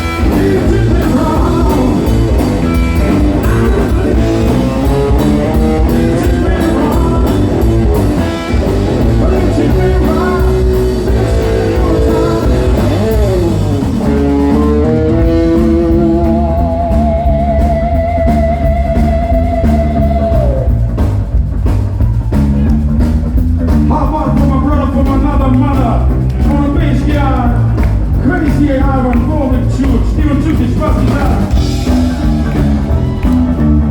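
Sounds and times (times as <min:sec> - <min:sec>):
bass and drums: 0:00.0 - 0:33.9.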